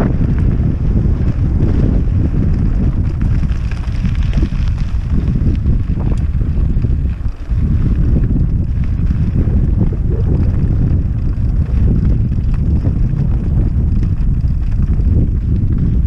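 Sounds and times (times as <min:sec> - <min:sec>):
bike rolling on gravel: 0:00.0 - 0:16.0
wind buffeting microphone: 0:00.0 - 0:16.0.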